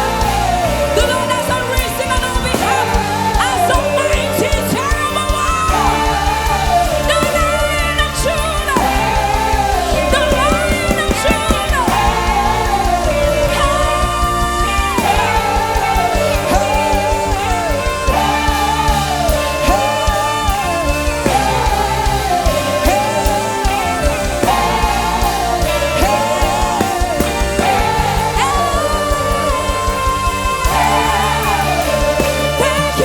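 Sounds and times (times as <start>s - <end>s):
worship music with beat: 0.0s - 33.0s.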